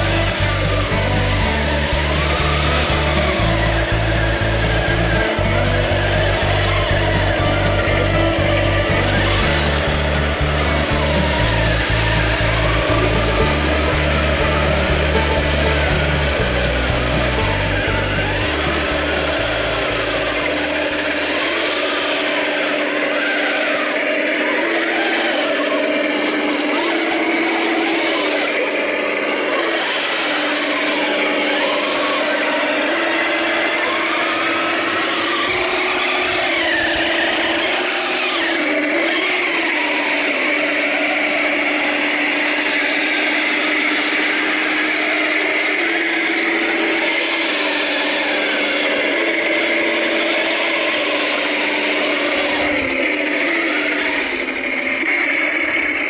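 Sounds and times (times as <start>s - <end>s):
electric motors whining: 0.0s - 56.0s
rasping clatter of tracks: 0.0s - 56.0s.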